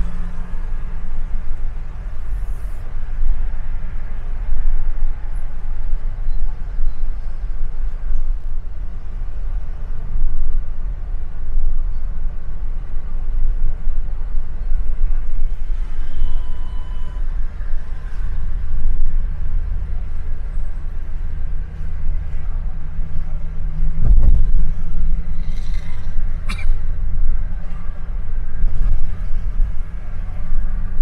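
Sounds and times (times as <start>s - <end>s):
car and road rumble: 0.0s - 31.0s.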